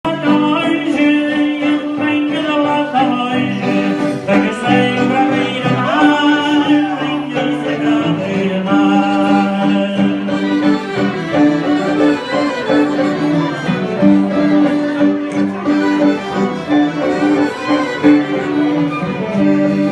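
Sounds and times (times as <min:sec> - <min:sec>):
live band playing dance music: 0:00.1 - 0:19.9.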